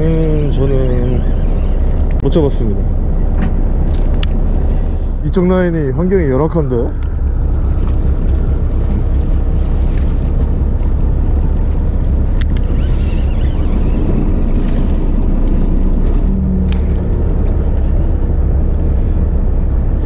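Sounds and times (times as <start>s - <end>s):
boat engine rumbling: 0.0s - 20.0s
wind buffeting microphone: 0.0s - 20.0s.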